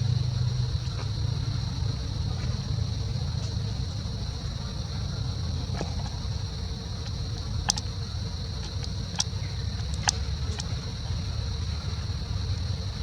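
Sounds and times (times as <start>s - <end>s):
continuous low rumble: 0.0s - 13.0s.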